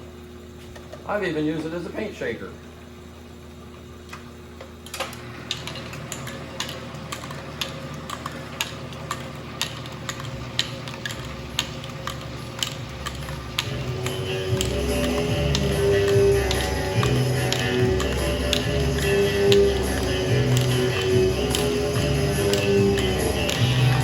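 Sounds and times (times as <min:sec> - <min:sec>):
lathe drive humming: 0:00.0 - 0:24.0.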